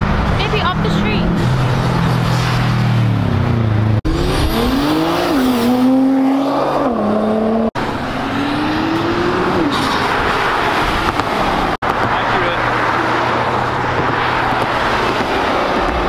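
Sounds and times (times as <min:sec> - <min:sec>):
cars accelerating hard: 0:00.0 - 0:16.0.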